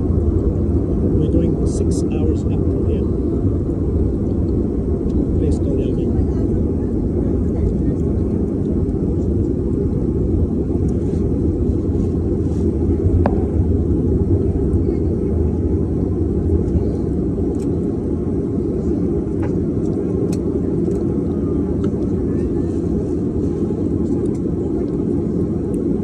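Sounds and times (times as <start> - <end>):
turboprop engine rumble in cabin: 0.0 - 26.0.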